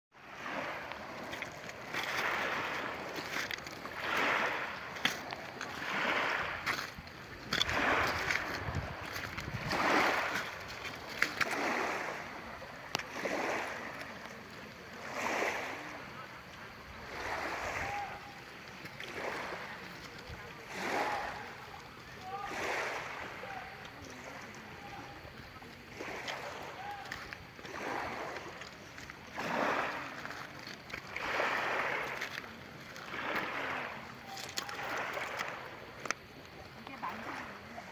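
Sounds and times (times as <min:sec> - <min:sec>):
small waves washing onto shore: 0:00.1 - 0:37.9.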